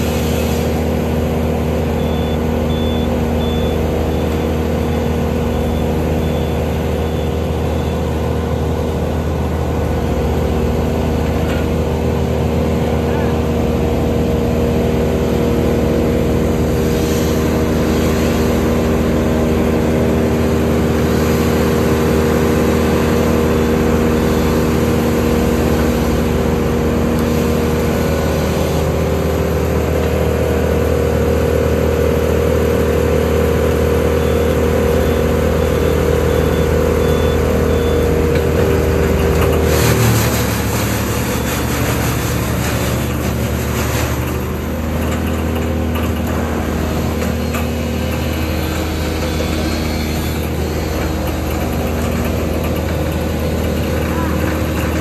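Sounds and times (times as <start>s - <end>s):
brush chipper running: 0.0s - 55.0s
loader engine drone: 0.0s - 55.0s
rough noisy machine sound: 0.0s - 55.0s.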